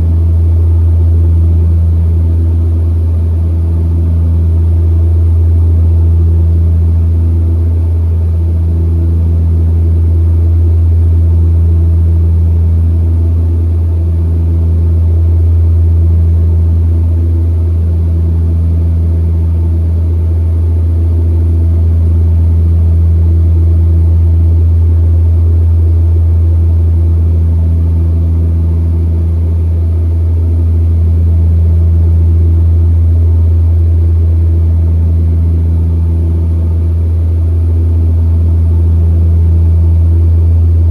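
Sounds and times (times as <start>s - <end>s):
turboprop cabin drone: 0.0s - 40.9s.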